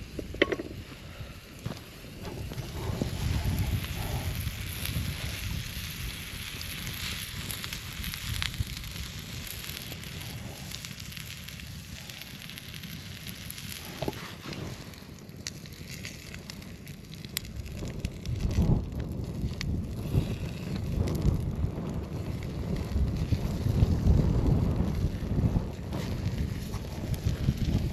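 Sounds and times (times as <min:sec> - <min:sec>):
burning wood popping: 0:00.0 - 0:27.9
campfire crackling: 0:00.0 - 0:27.9.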